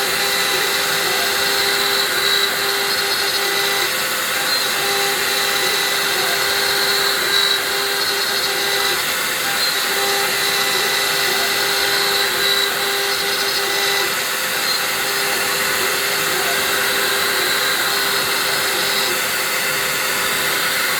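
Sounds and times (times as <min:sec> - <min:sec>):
milling machine motor whine: 0:00.0 - 0:20.9.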